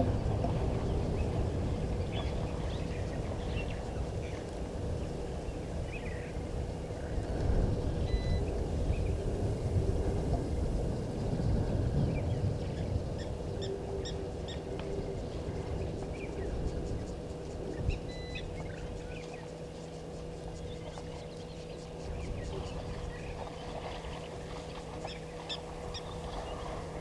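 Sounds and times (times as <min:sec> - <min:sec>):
faint electrical hum: 0:00.0 - 0:27.0
low rumble: 0:00.0 - 0:27.0.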